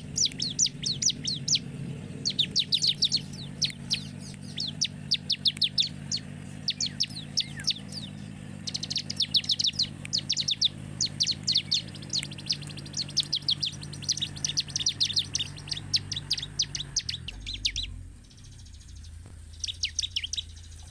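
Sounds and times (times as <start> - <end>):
bird singing sharp falling chirps: 0.0 - 20.9.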